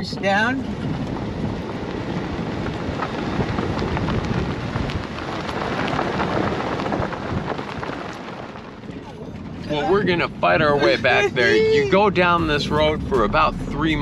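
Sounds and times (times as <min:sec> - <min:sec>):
car tyres rolling on gravel road: 0:00.0 - 0:14.0.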